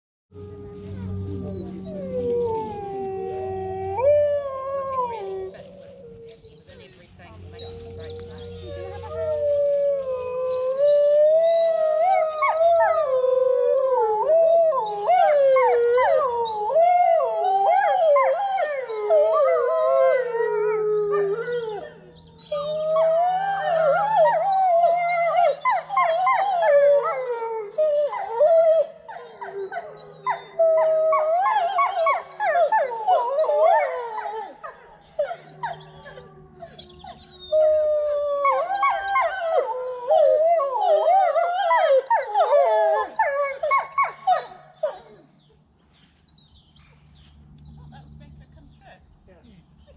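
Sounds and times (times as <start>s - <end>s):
dogs howling together: 0.3s - 6.7s, 7.3s - 45.3s.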